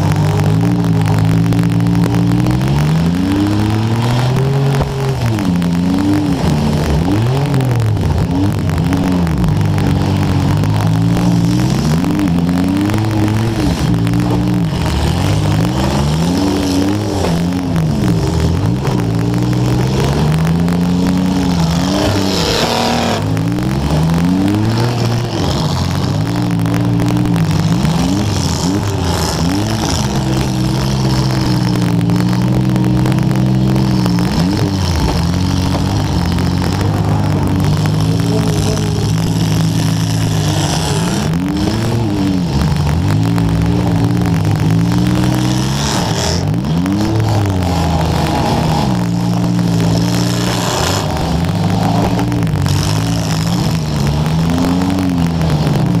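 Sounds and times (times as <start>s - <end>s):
car engines revving: 0.0s - 56.0s
crackling microphone static: 0.0s - 56.0s.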